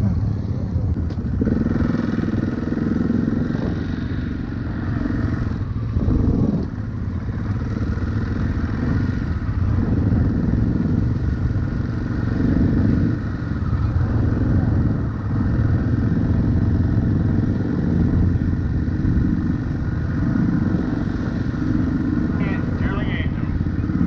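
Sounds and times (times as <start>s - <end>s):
dirt bike engine revving: 1.3s - 24.0s.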